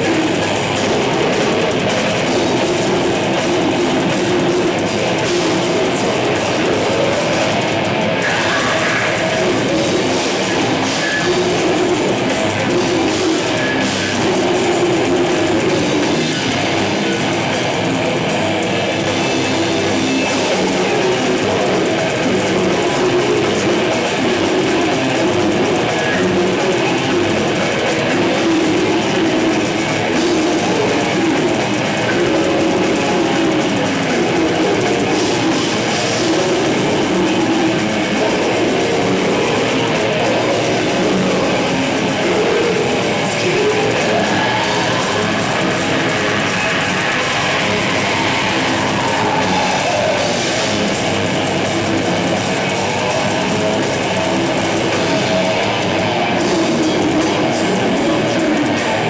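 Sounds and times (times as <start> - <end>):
death metal band playing live: 0.0 - 59.0.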